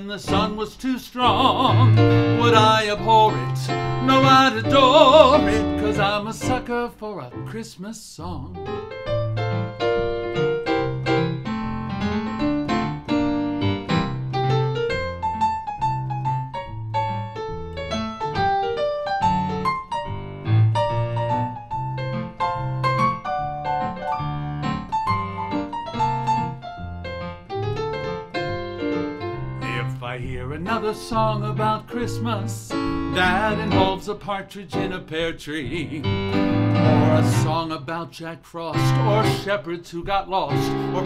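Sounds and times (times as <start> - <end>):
electronic keyboard piano sound: 0.0 - 0.7, 1.3 - 7.5, 8.5 - 35.1, 35.7 - 37.7, 40.5 - 41.0.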